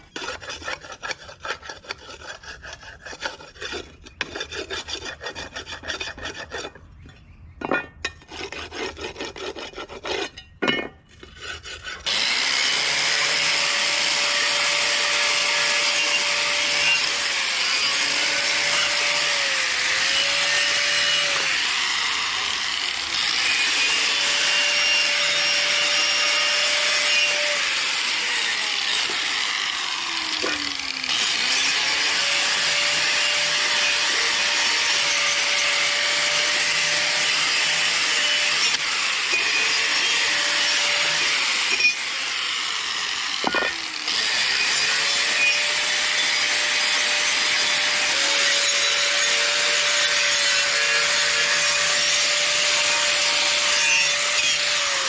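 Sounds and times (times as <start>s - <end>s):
power tool grinding metal: 0.0s - 6.8s, 11.1s - 55.0s.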